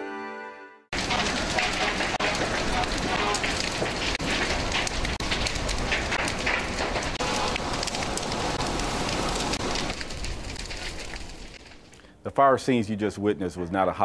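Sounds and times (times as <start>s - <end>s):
fire crackling: 0.9s - 14.0s.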